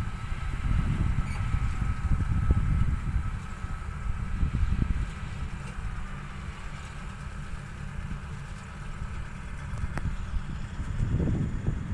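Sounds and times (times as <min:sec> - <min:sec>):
combine harvester engine rumble: 0:00.0 - 0:11.9.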